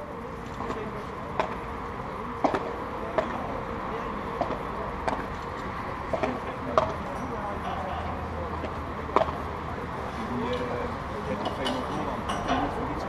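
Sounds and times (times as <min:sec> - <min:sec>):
murmur of spectators talking: 0:00.0 - 0:13.0.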